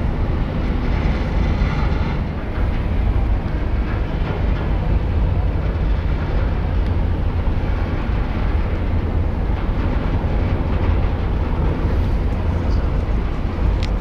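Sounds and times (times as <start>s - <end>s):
diesel engines rumbling: 0.0s - 14.0s.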